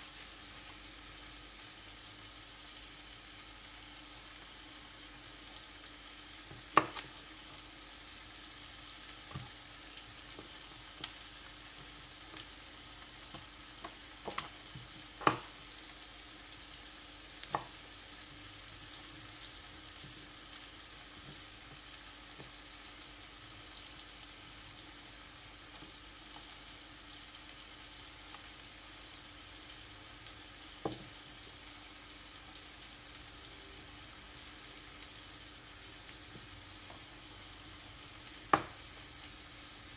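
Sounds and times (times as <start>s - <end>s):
chicken sizzling in a frying pan: 0.0s - 39.9s.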